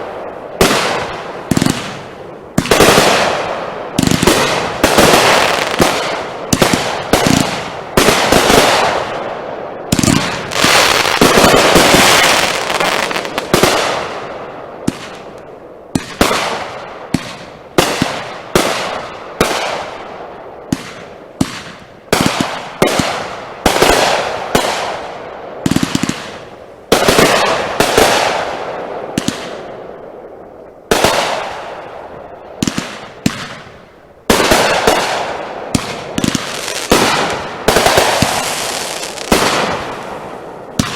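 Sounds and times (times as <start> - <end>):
fireworks bangs with crackle: 0.0 - 29.8, 30.9 - 40.9.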